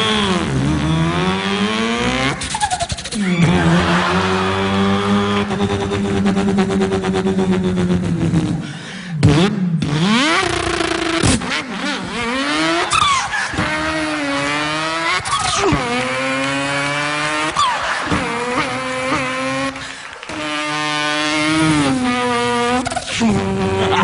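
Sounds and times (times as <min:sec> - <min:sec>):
man imitating car engine: 0:00.0 - 0:24.0.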